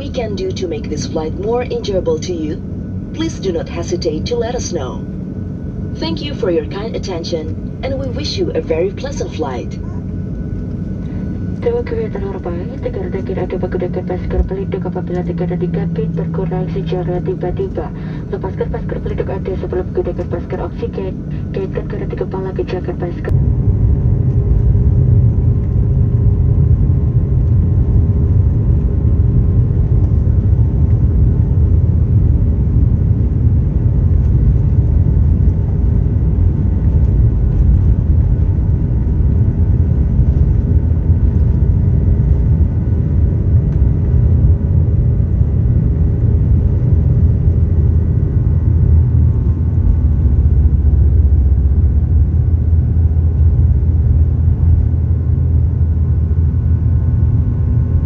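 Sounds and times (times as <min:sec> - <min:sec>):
airliner engines rumbling: 0:00.0 - 0:58.0
faint steady hum: 0:00.0 - 0:58.0.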